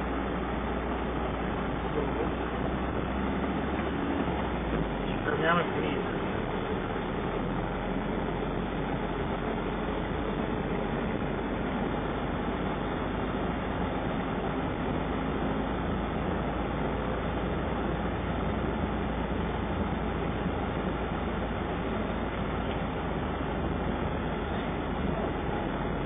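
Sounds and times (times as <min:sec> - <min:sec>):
engine and tyre noise: 0:00.0 - 0:26.0.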